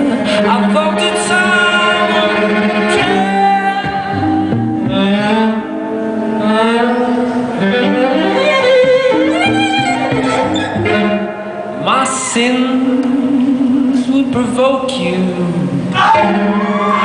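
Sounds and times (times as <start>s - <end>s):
bowed violin melody: 0.0s - 13.8s.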